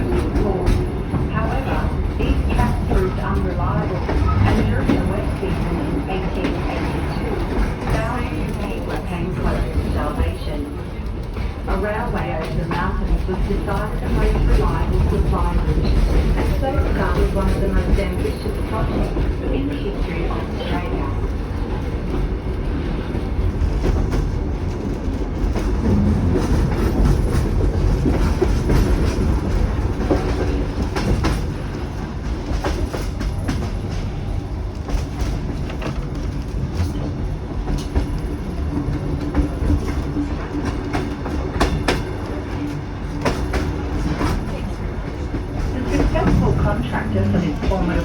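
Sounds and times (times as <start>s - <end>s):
train rumbling along track: 0.0s - 48.0s.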